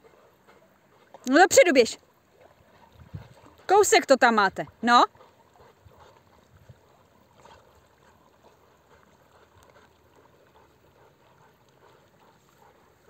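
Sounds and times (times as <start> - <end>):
dogs splashing in water: 0.0 - 13.0.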